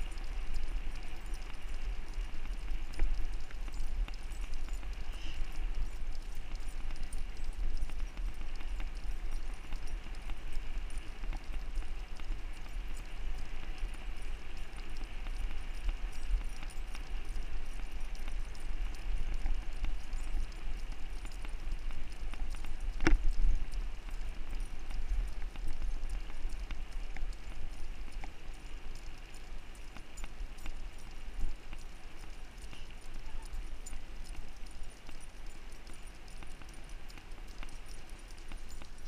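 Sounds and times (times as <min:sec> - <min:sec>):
dogs running on pavement: 0:00.0 - 0:39.0
wind rumble on microphone: 0:00.0 - 0:39.0.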